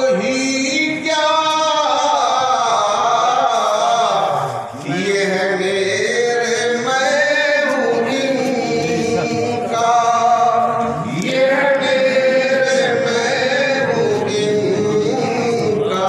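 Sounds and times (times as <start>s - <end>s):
man chanting devotional song: 0.0s - 16.0s.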